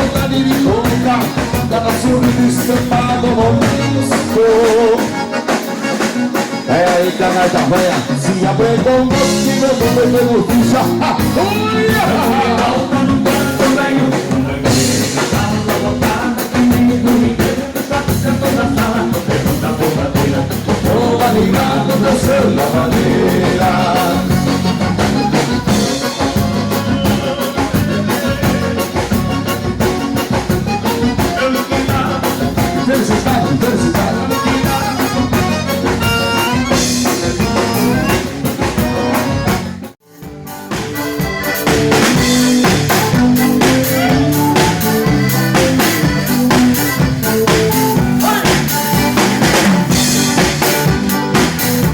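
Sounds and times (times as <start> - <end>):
live dance band playing: 0.0 - 51.9.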